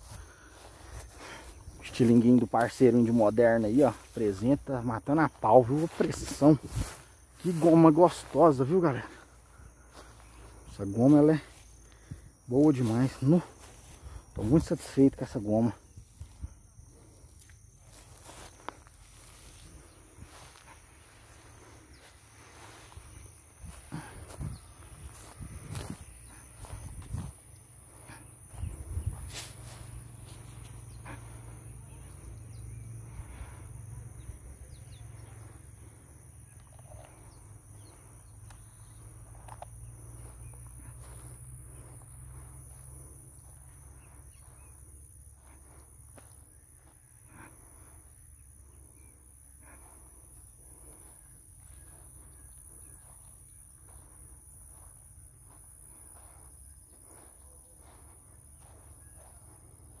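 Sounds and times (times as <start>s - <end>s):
high-pitched insect drone: 0.0s - 60.0s.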